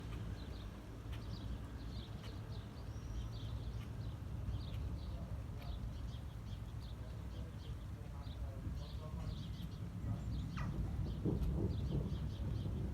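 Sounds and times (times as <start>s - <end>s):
small birds chirping: 0.0s - 12.9s
steady low rumble: 0.0s - 12.9s.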